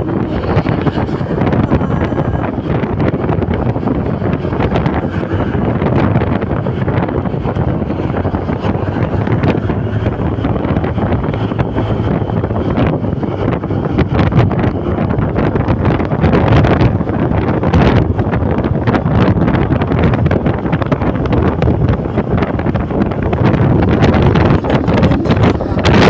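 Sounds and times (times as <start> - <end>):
heavy wind on microphone: 0.0 - 26.0.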